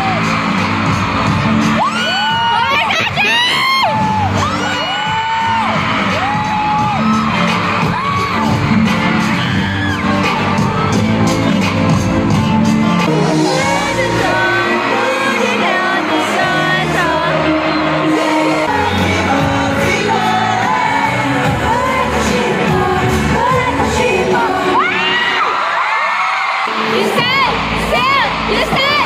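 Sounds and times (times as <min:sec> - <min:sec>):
fans shouting and screaming: 0:00.0 - 0:29.0
live pop music with singing: 0:00.0 - 0:29.0.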